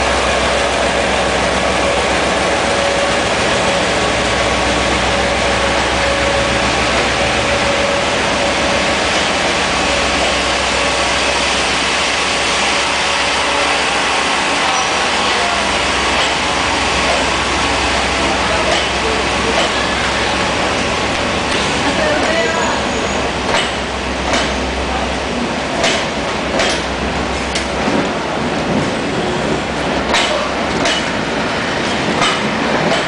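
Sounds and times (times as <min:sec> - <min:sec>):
diesel locomotive engine drone: 0:00.0 - 0:33.0
train wheels on rails: 0:00.0 - 0:33.0.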